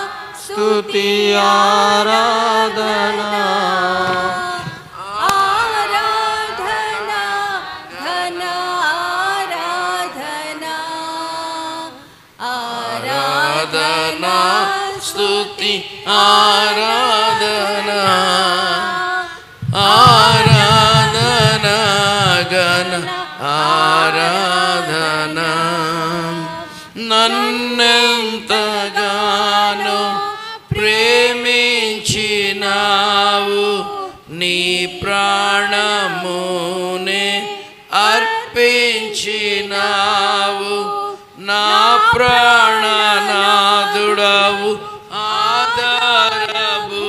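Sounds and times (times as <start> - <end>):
man singing worship song: 0.0 - 47.0.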